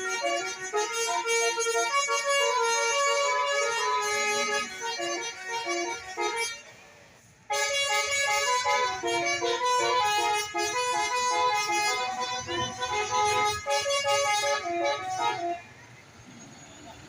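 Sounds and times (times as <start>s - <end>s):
musical bus horn playing tune: 0.0s - 6.8s, 7.4s - 15.7s.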